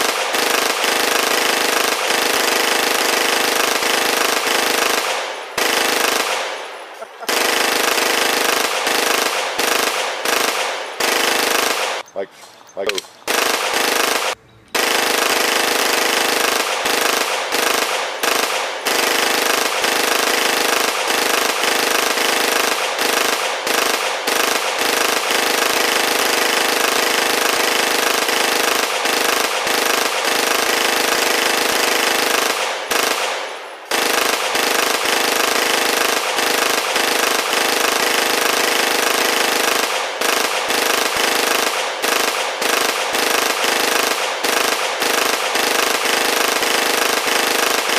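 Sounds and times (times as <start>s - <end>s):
rapid automatic gunfire: 0.0s - 12.0s, 13.3s - 47.9s.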